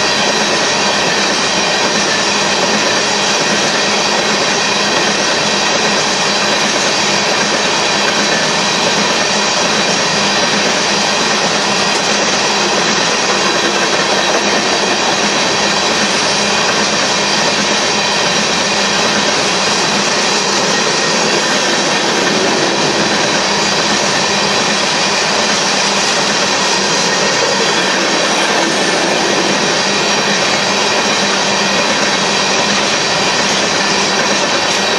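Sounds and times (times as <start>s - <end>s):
freight train wheels rumbling on rail: 0.0s - 34.9s.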